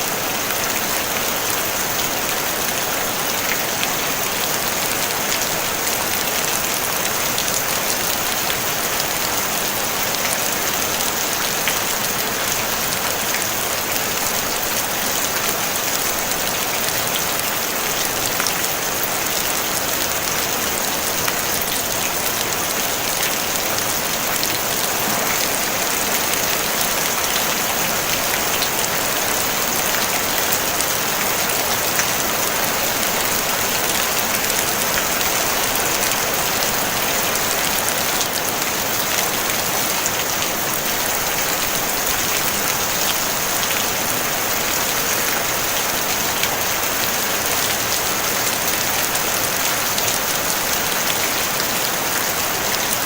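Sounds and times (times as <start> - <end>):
rain on a tin roof: 0.0 - 53.0.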